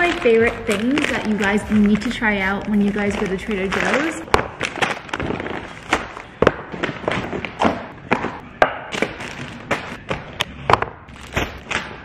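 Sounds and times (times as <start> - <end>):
paper bags rustling: 0.0 - 10.4, 11.1 - 12.0
groceries thudding on counter: 0.0 - 12.0.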